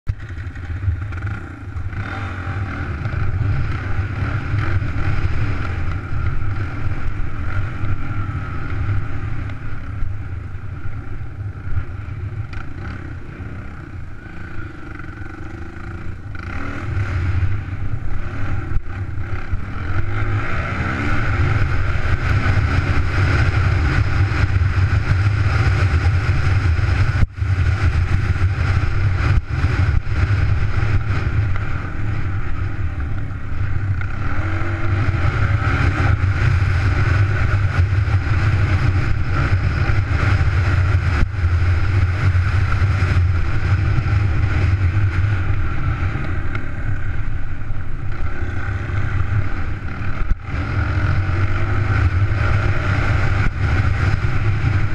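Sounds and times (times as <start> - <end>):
dirt bike engine running: 0.1 - 54.9.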